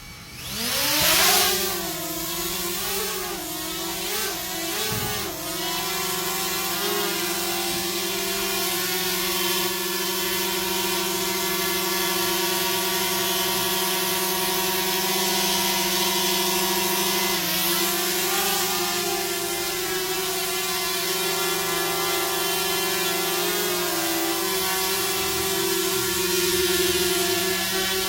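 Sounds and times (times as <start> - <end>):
drone propellers buzzing: 0.0 - 11.7, 16.4 - 28.0.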